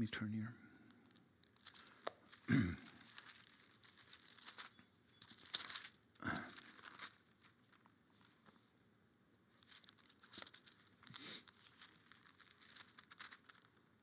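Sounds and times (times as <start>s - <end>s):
pages turning: 1.0s - 8.6s, 9.6s - 14.0s.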